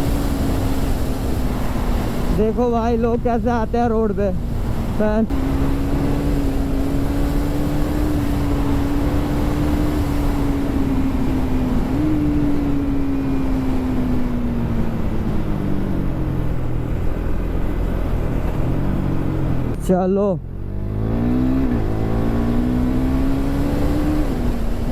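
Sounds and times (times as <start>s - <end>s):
motorcycle engine at speed: 0.0s - 3.4s, 4.4s - 24.9s
heavy wind: 0.0s - 24.9s
road rumble: 0.0s - 24.9s.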